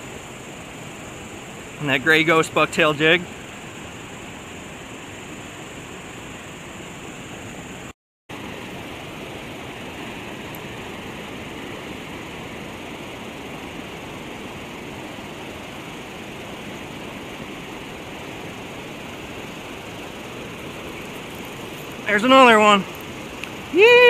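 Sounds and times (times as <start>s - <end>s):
river water pouring over a dam: 0.0s - 24.0s.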